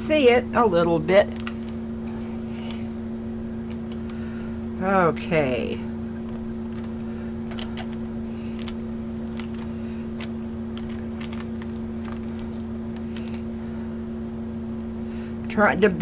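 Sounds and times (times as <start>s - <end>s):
steady hum with two tones: 0.0s - 16.0s.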